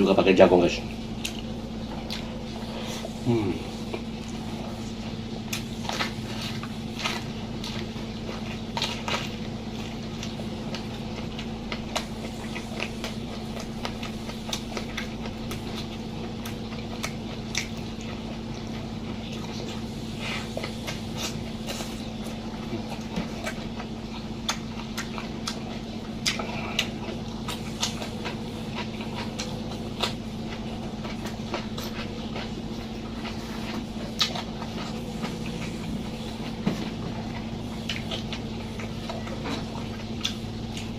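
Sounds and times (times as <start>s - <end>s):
chewing and crunching food: 0.0s - 40.9s
steady low hum: 0.0s - 40.9s.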